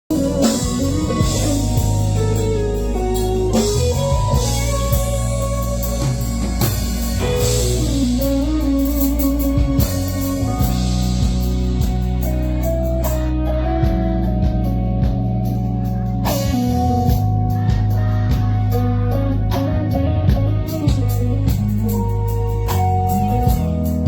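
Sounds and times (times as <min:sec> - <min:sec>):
drums and bass: 0:00.0 - 0:24.0
electric guitar melody: 0:00.1 - 0:24.0.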